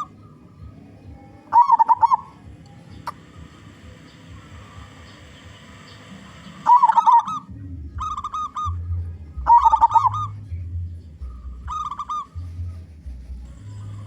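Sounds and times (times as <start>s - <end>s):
dove cooing: 0.0s - 14.0s
low background rumble: 0.0s - 14.0s.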